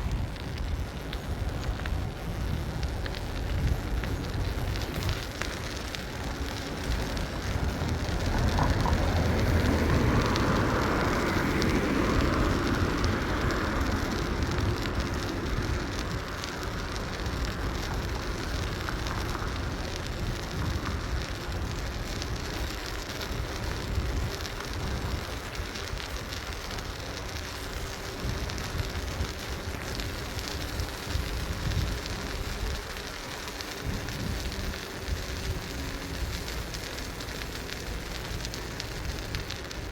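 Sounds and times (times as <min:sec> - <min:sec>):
tyre and road noise: 0:00.0 - 0:39.9
wind rushing over microphone: 0:00.0 - 0:39.9.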